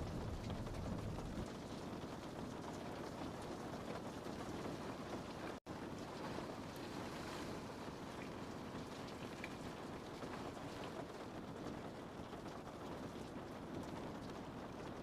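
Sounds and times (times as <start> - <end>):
rain on a window pane: 0.0 - 15.0.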